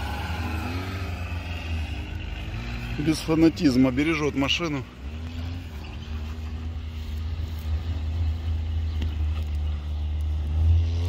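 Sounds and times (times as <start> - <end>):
vehicle engine low rumble: 0.0 - 11.0.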